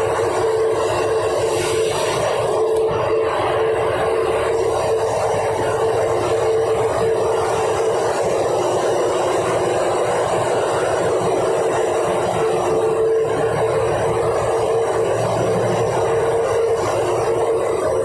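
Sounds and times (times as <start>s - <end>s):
ship machinery and ventilation drone: 0.0s - 18.0s
steady humming tone: 0.0s - 18.0s.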